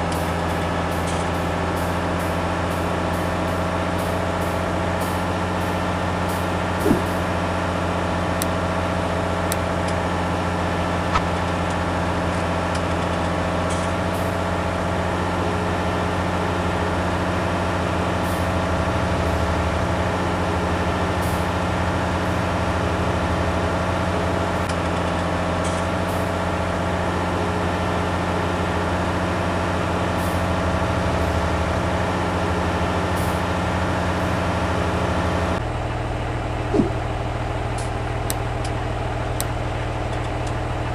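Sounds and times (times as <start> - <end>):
heavy engine running: 0.0 - 40.9.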